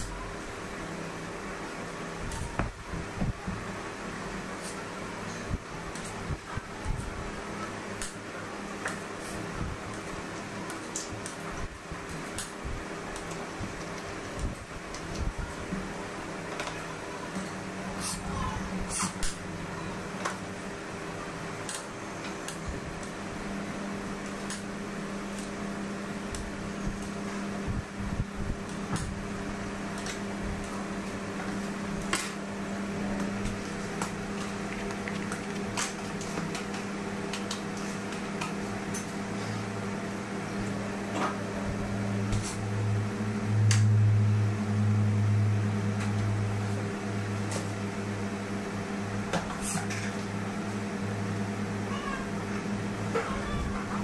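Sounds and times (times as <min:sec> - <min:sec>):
electric appliance humming: 0:00.0 - 0:54.0.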